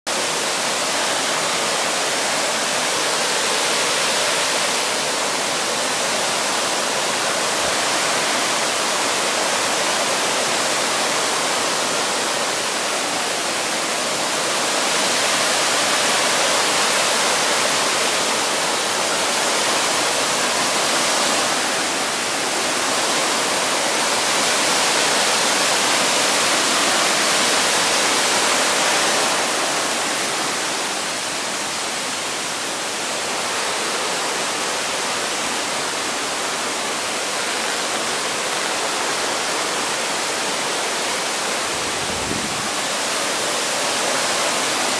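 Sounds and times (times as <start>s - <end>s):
stream cascading over boulders: 0.1s - 44.9s.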